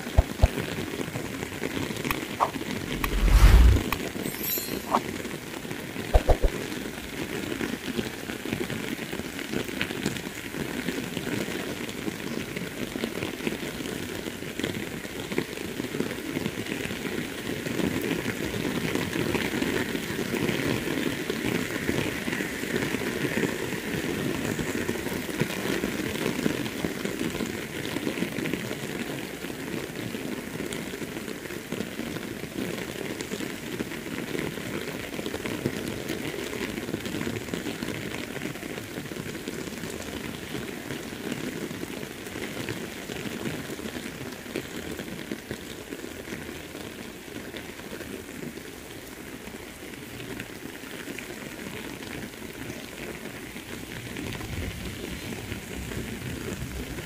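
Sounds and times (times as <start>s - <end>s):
steady rain falling: 0.0s - 3.0s, 5.0s - 57.0s.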